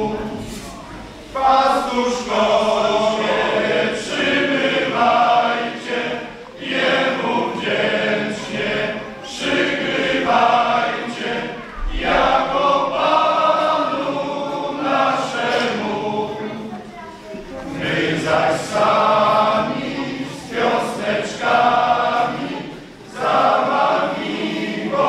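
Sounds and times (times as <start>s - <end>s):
men's choir singing carol: 0.0s - 25.0s.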